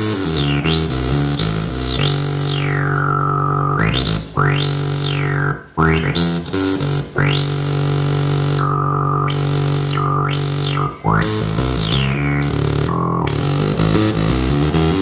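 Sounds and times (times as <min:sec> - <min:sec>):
synthesizer filter sweeps: 0:00.0 - 0:15.0.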